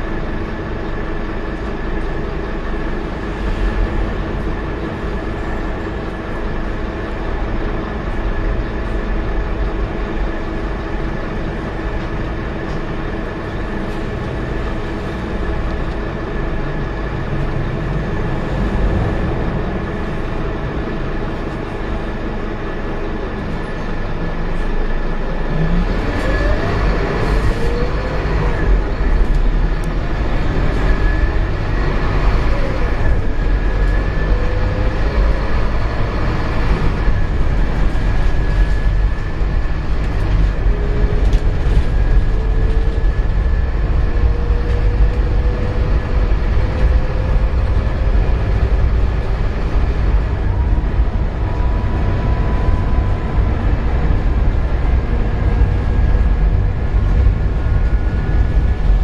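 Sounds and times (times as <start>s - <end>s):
bus engine drone inside: 0.0s - 59.0s
rising whine: 0.9s - 59.0s.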